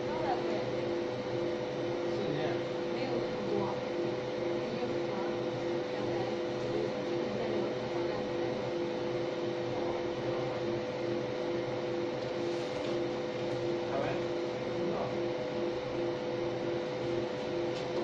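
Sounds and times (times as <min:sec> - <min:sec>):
laser marking machine hum: 0:00.0 - 0:18.0.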